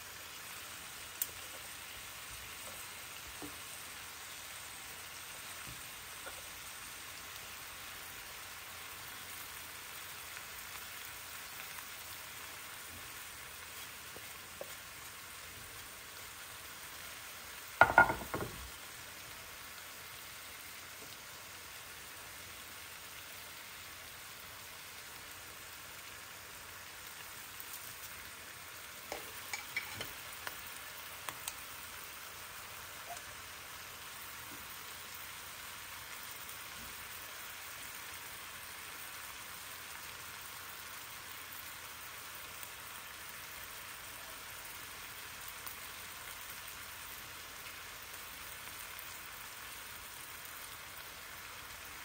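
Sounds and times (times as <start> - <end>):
food sizzling in a pot: 0.0 - 52.0.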